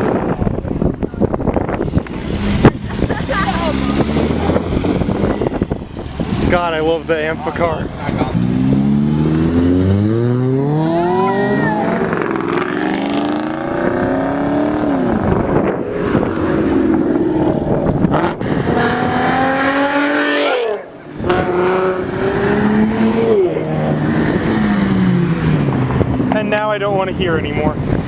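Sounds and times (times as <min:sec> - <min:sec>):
car engines revving hard: 0:00.0 - 0:28.0.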